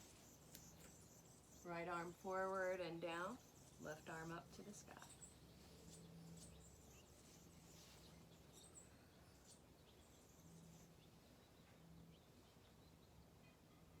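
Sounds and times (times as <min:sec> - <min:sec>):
bird chirps: 0:00.0 - 0:13.7
faint low hum: 0:00.0 - 0:14.0.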